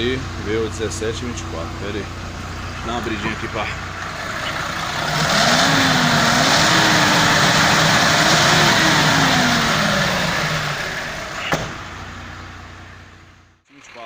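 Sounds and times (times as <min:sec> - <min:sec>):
diesel bus engine revving: 0:00.0 - 0:13.6.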